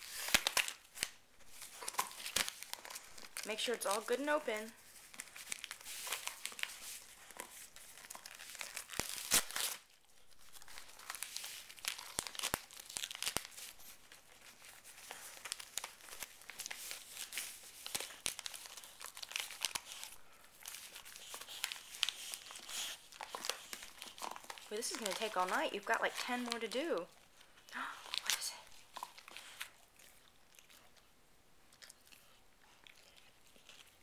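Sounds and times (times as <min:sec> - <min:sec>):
dog tearing foil wrap: 0:00.0 - 0:30.9, 0:31.8 - 0:34.0.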